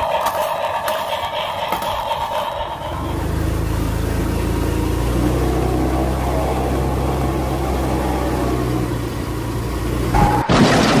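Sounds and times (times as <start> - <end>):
low engine-like drone: 0.0 - 11.0.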